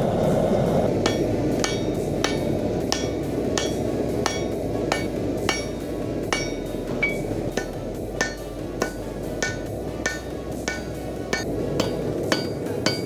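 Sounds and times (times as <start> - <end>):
steady rushing noise: 0.0 - 13.0
hammer striking sheet metal: 1.0 - 13.0.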